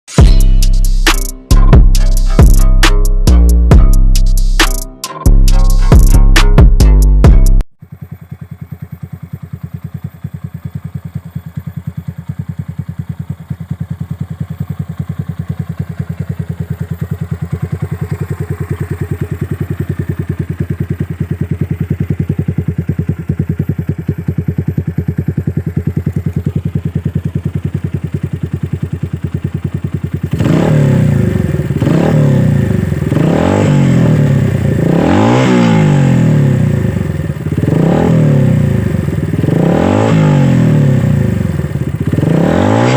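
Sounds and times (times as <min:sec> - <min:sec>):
motorcycle engine idling and revving: 0:00.1 - 0:42.9.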